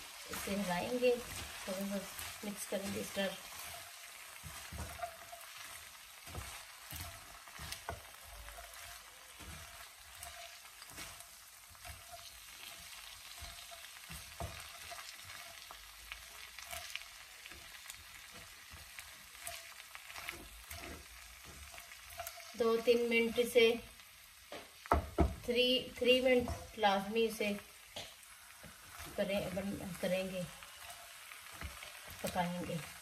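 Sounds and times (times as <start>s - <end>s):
food sizzling in a wok: 0.0s - 33.0s
spatula knocking and scraping pan: 0.1s - 23.8s, 24.4s - 27.1s, 27.9s - 33.0s.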